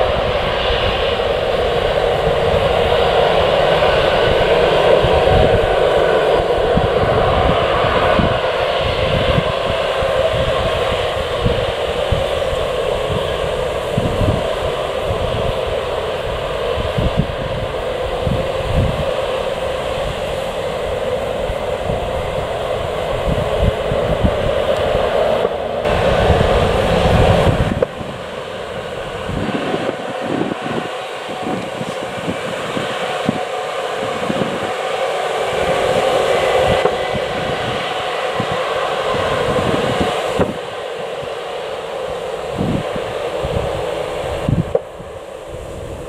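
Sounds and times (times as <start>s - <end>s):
jet engines roaring: 0.0s - 46.0s
wind buffeting microphone: 0.0s - 46.0s.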